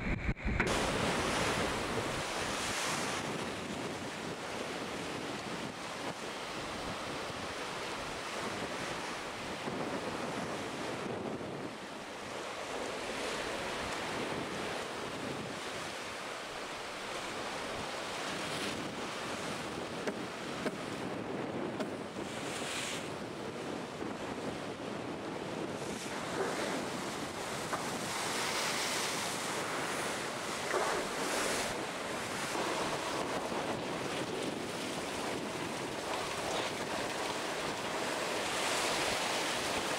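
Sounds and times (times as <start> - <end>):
sea rushing along hull: 0.0 - 39.9
wind buffeting microphone: 0.0 - 39.9.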